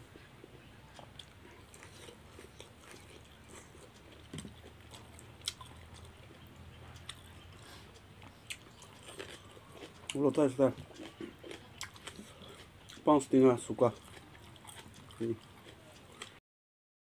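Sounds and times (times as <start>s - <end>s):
faint low hum: 0.0s - 16.4s
chewing mouth sounds: 0.9s - 16.4s.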